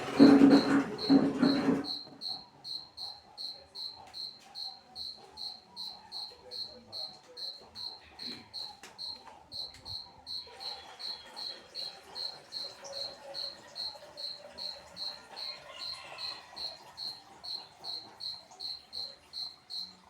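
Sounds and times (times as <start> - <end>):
cricket chirping: 0.1 - 20.0.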